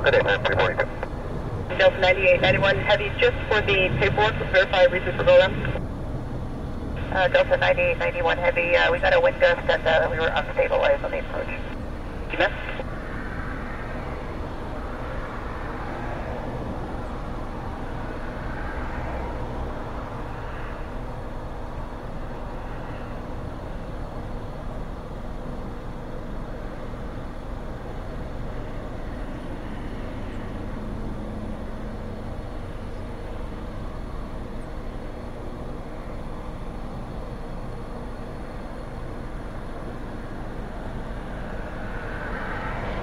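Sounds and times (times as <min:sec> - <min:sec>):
low engine rumble: 0:00.0 - 0:43.0.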